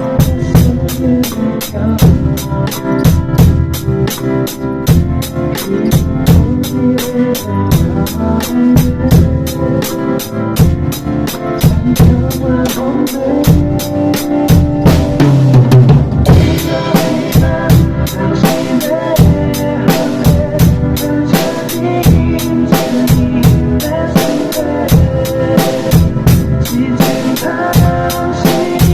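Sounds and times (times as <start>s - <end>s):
drum kit playing: 0.0s - 28.9s
recorded worship song: 0.0s - 28.9s.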